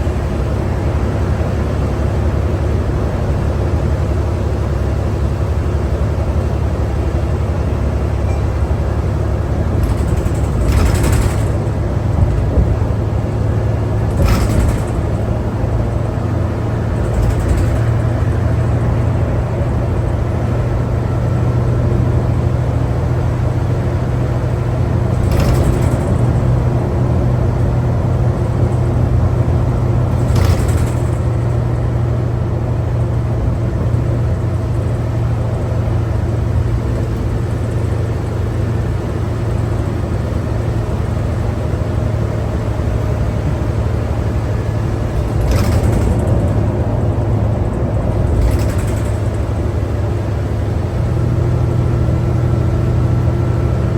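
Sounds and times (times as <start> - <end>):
bus engine and road rumble: 0.0 - 53.9
rattles and clunks: 0.0 - 53.9.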